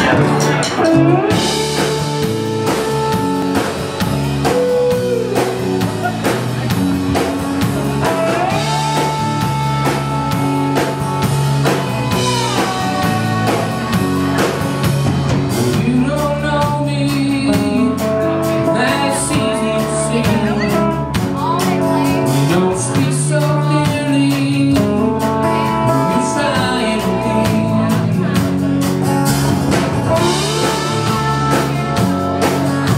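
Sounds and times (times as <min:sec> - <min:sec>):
man singing: 0:00.0 - 0:06.8, 0:07.6 - 0:32.9
acoustic and electric guitars: 0:00.0 - 0:32.9
drum kit beat: 0:00.0 - 0:32.9.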